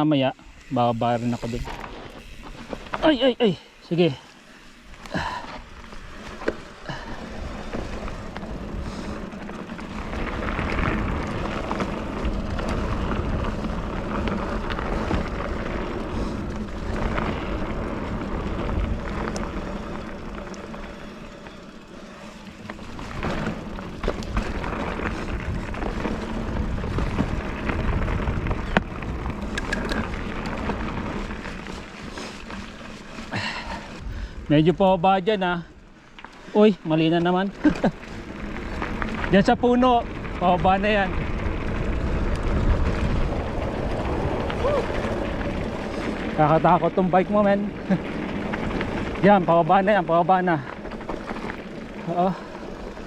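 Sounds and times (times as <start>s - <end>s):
bike rattling and clicking: 0.0s - 53.0s
bike tyres on dirt: 0.0s - 53.0s
wind rumbling on microphone: 5.2s - 35.0s, 37.9s - 53.0s.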